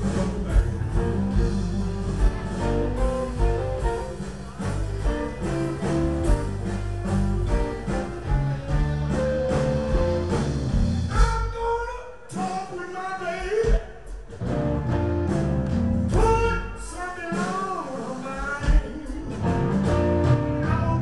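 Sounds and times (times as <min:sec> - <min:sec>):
electric guitar: 0:00.0 - 0:11.2, 0:14.3 - 0:21.0
blues band playing: 0:00.0 - 0:21.0.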